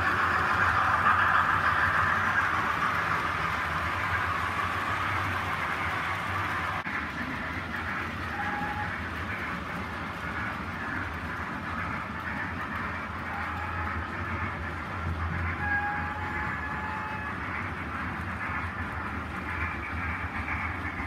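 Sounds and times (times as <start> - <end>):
model train wheels rumbling on rail: 0.0 - 21.0.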